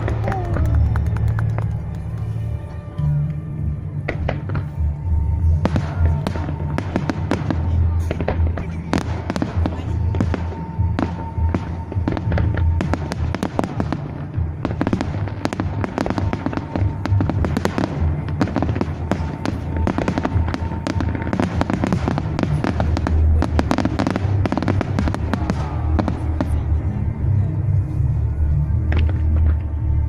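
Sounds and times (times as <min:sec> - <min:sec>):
fireworks crackling and banging: 0:00.0 - 0:30.0.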